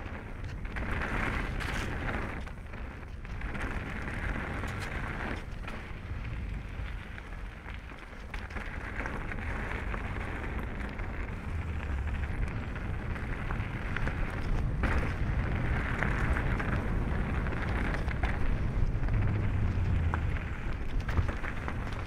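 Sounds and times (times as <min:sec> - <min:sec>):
bike tyres crunching on gravel: 0:00.0 - 0:22.0
stones and bike rattling: 0:00.0 - 0:22.0
wind rumble on microphone: 0:00.0 - 0:22.0.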